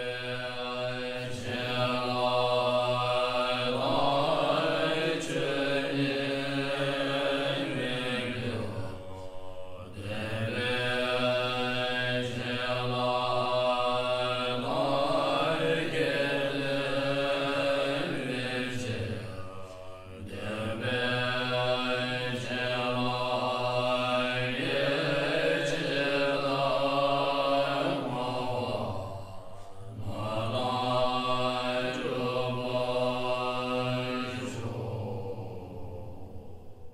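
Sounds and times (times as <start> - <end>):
mantra chanting: 0.0 - 36.7.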